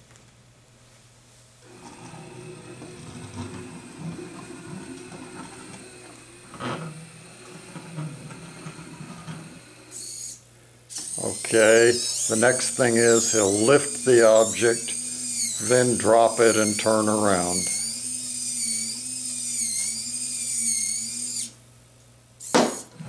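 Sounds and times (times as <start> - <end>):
robot drive motors whirring: 1.7 - 21.6.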